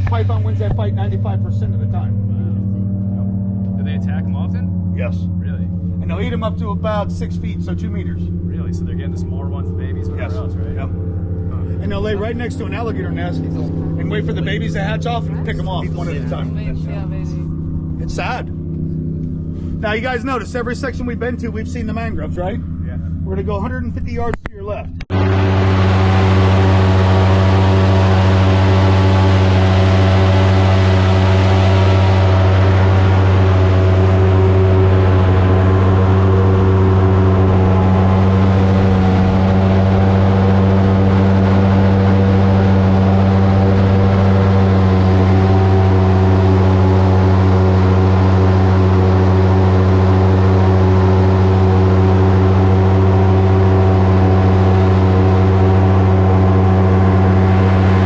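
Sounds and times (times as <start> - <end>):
airboat engine drone: 0.0 - 58.0.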